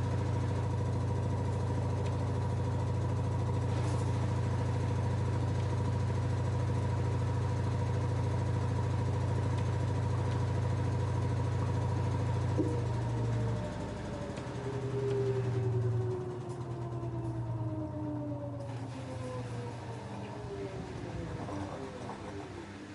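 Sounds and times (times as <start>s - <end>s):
washing machine spinning: 0.0s - 22.9s.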